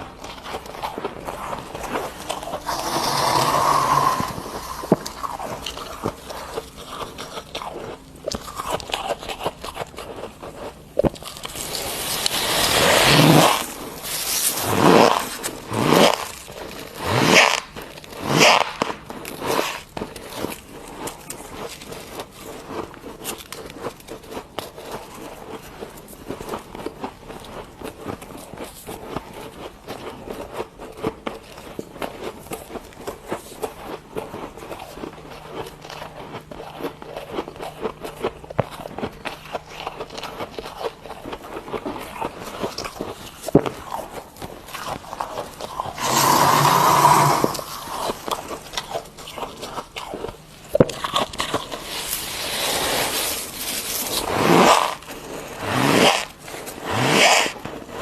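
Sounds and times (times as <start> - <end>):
fine crackling chewing: 0.0 - 58.0.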